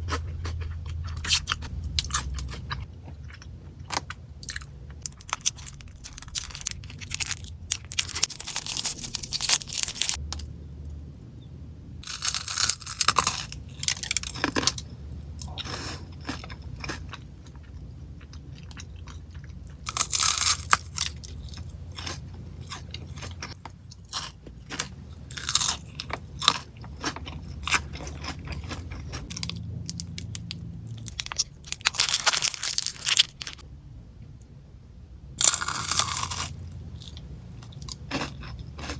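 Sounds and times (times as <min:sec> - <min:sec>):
crunching and chewing chocolates: 0:00.0 - 0:10.5, 0:12.0 - 0:33.6, 0:35.4 - 0:38.9
steady low hum: 0:00.0 - 0:38.9.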